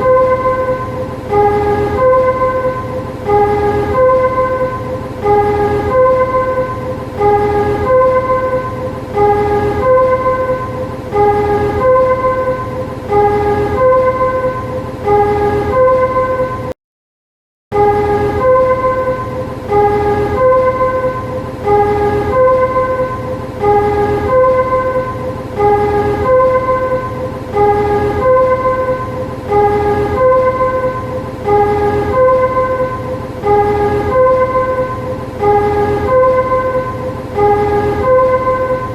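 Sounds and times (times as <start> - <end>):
two-tone warning chime: 0.0 - 16.7, 17.7 - 38.9.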